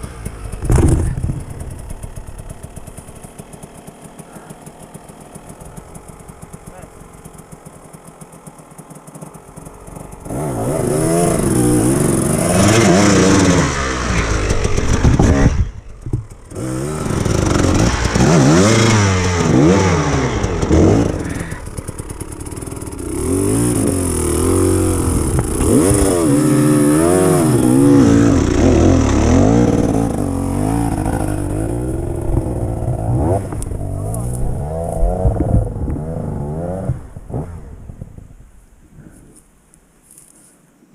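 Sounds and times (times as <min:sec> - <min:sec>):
dirt bike engine revving: 0:00.0 - 0:38.2.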